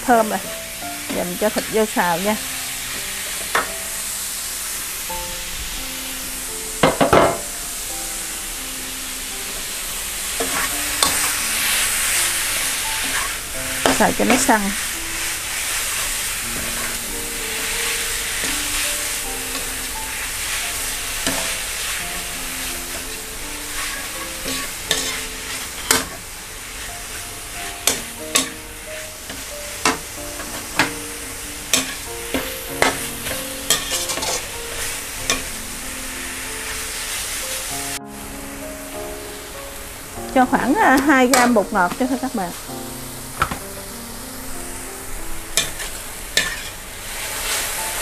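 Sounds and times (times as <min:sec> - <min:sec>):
meat sizzling in hot oil: 0:00.0 - 0:48.0.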